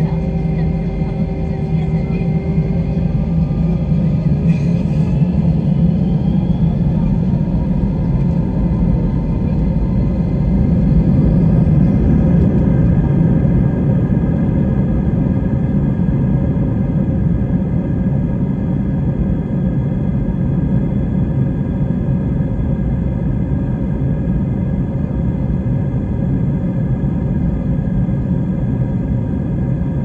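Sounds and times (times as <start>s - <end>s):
faint jet engine whine: 0.0s - 30.0s
jet engines rumbling: 0.0s - 30.0s.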